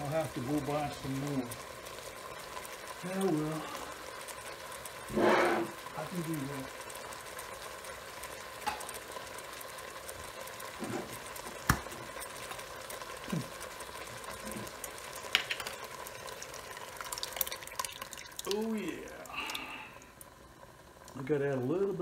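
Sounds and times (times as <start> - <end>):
faint sizzle: 0.0 - 22.0.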